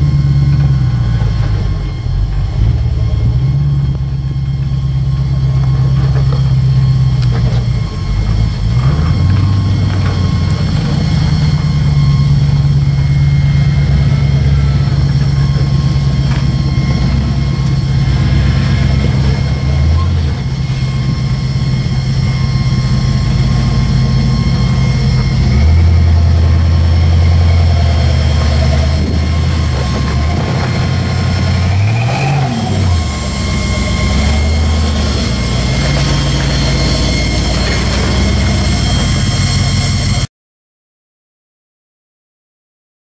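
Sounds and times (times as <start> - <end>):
off-road vehicle engine running: 0.0 - 40.3.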